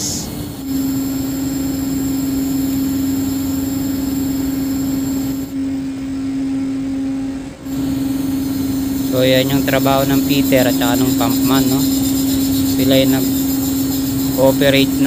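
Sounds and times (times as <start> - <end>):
winch humming: 0.0 - 15.0.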